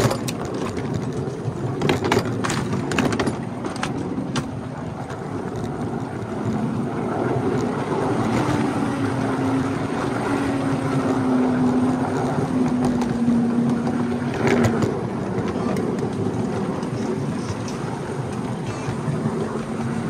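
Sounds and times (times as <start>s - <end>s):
train wheels clattering on rail: 0.0s - 6.8s, 7.4s - 9.2s, 10.0s - 20.0s
locomotive drone: 0.0s - 20.0s.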